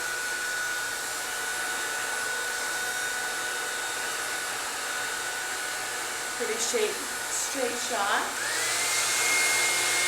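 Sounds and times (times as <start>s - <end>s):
hairdryer running: 0.0s - 10.0s.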